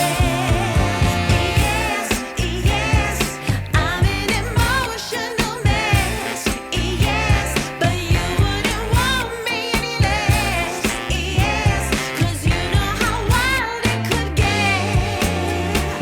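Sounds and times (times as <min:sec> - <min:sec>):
pop song with singer: 0:00.0 - 0:16.0.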